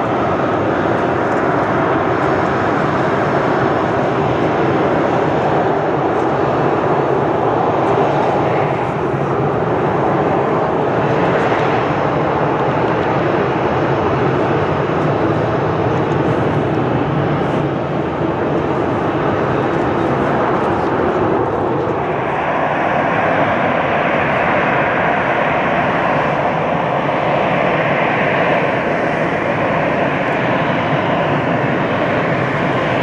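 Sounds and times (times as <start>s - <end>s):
jet airliner engines running: 0.0s - 33.0s.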